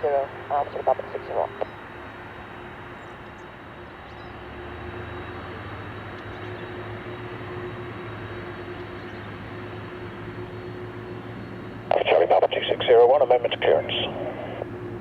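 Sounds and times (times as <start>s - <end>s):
faint steady tone: 0.0s - 15.0s
jet airliner engines running: 0.0s - 15.0s.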